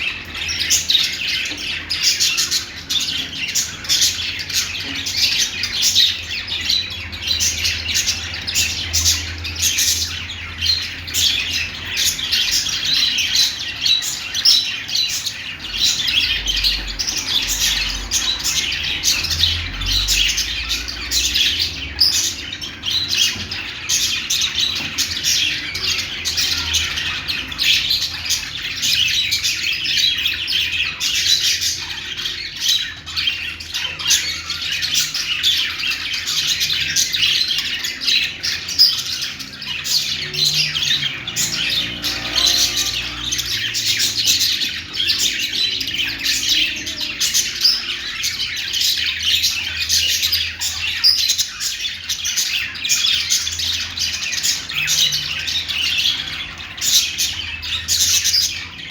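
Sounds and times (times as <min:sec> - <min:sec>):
budgerigars warbling and chattering: 0:00.0 - 0:58.9.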